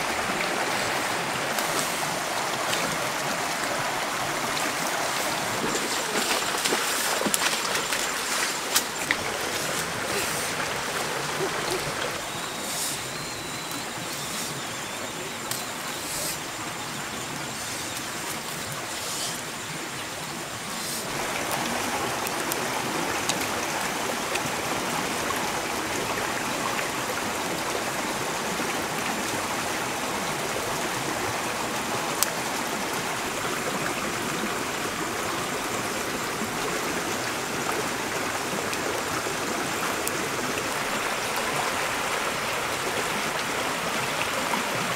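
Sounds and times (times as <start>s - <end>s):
flowing river water: 0.0s - 44.9s.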